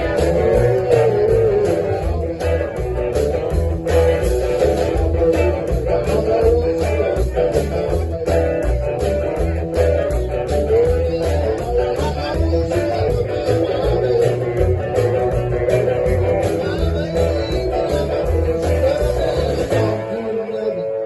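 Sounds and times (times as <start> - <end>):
drums keeping a steady beat: 0.0 - 20.6
bass guitar: 0.0 - 21.0
electric guitar lines: 0.0 - 21.0.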